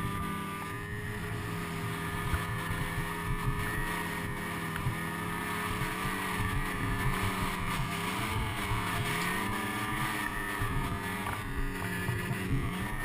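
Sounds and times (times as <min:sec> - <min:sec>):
snowmobile engine at high pitch: 0:00.0 - 0:13.0.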